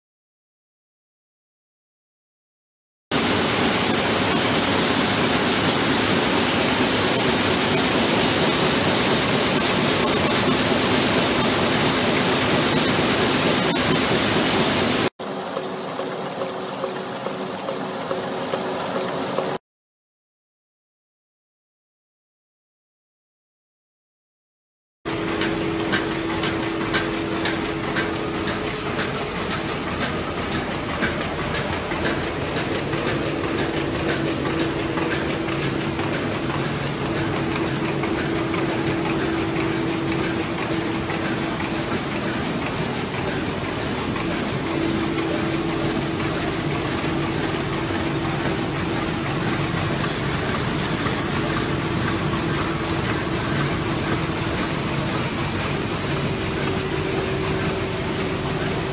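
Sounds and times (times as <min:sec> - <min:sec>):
machine hum: 0:03.1 - 0:19.5, 0:25.1 - 0:58.9
rapid mechanical clatter: 0:03.1 - 0:19.6, 0:25.1 - 0:58.9.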